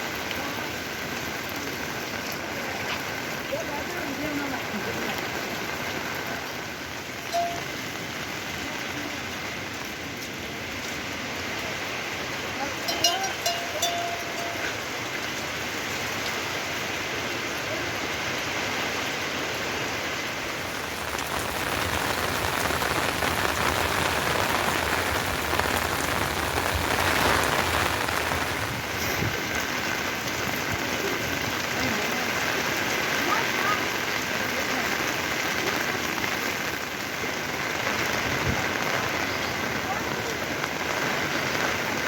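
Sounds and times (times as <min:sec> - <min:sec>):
heavy rain hissing: 0:00.0 - 0:42.0.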